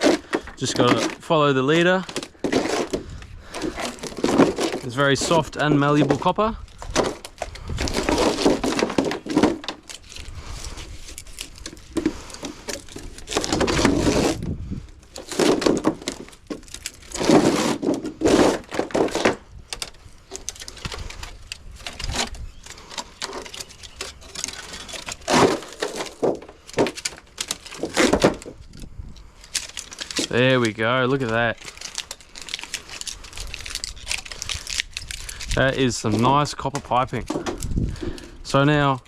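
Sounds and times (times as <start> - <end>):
metal tubing tearing free: 0.0 - 38.4.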